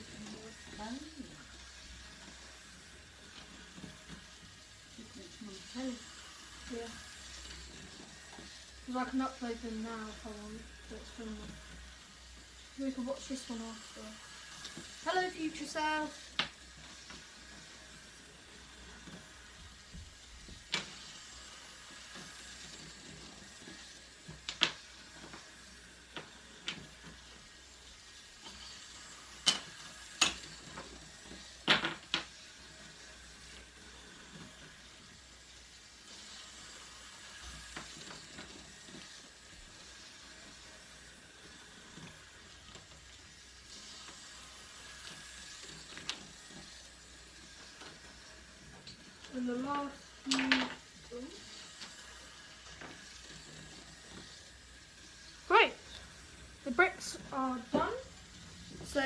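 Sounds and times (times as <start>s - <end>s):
dominoes clicking on track: 0.0s - 59.0s
faint steady hiss: 0.0s - 59.0s.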